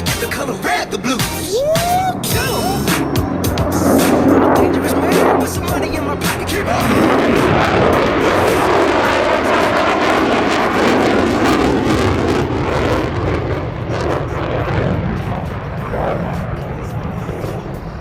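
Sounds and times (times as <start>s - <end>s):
fighter jet engine roar: 0.0s - 18.0s.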